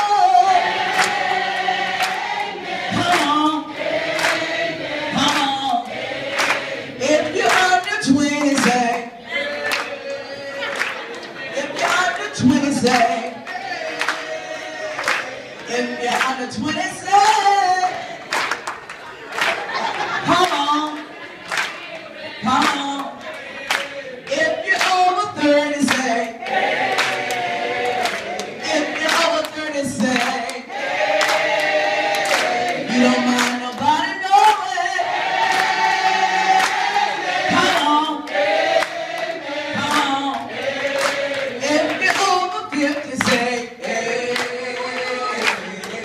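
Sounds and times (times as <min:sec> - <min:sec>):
people clapping on the beat: 0:00.0 - 0:46.0
people singing together: 0:00.0 - 0:46.0.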